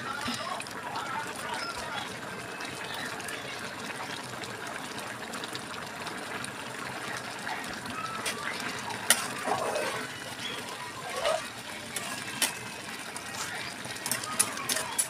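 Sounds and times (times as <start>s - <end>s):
rice bubbling in a pot: 0.0s - 15.0s.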